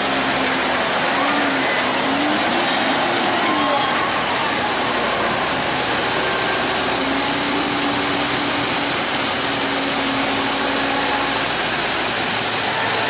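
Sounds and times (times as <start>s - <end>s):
harvest machinery rushing noise: 0.0s - 13.0s.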